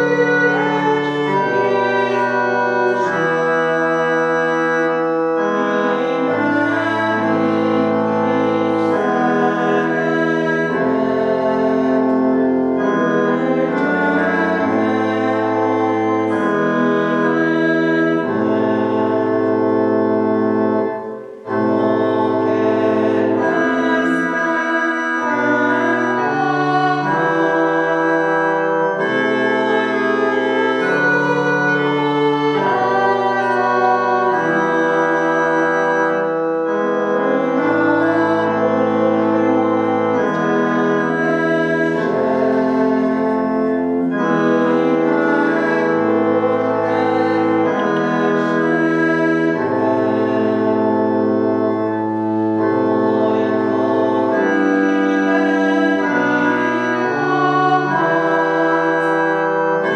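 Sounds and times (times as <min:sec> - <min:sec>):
organ playing hymn chords: 0:00.0 - 0:59.9.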